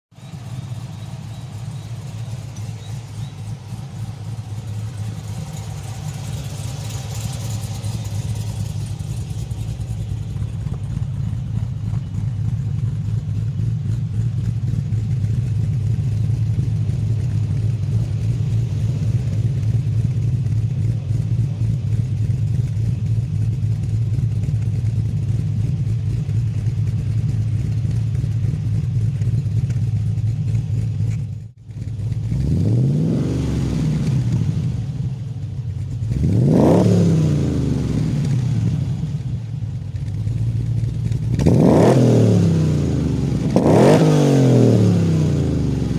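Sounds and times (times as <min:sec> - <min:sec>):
car exhaust deep steady note: 0:00.1 - 0:45.9.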